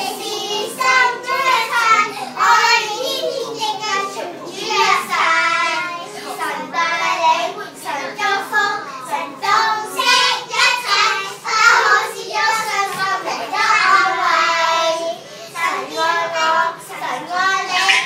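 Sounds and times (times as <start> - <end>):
girls singing in unison: 0.0 - 18.0.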